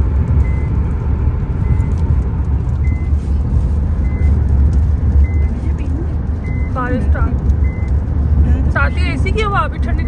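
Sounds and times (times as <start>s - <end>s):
car cabin road and engine rumble: 0.0s - 10.0s.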